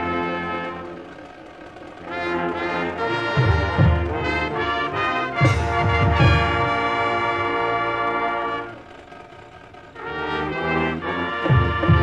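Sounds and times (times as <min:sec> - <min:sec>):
marching band brass chord: 0:00.0 - 0:12.0.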